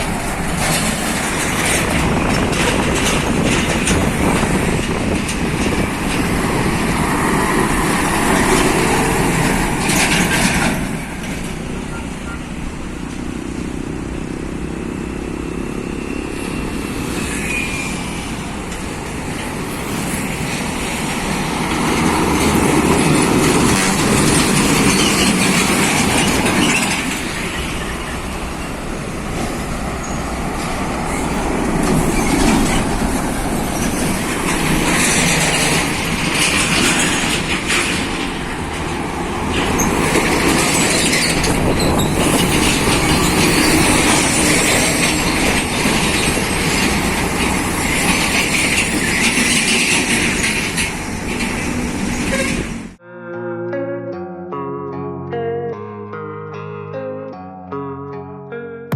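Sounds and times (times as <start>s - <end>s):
heavy trucks passing: 0.0s - 53.0s
trailers rattling: 0.0s - 53.0s.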